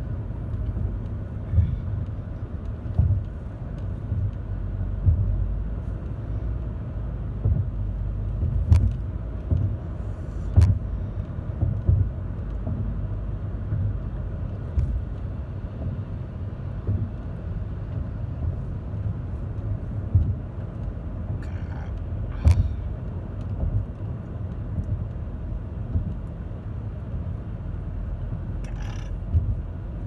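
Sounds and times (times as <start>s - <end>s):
car road noise rumble: 0.0s - 30.0s.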